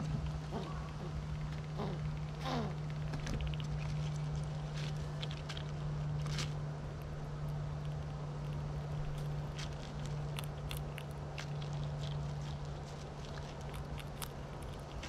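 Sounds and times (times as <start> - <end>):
steady low hum: 0.0 - 15.0
squirrels scrabbling and clicking: 0.1 - 15.0.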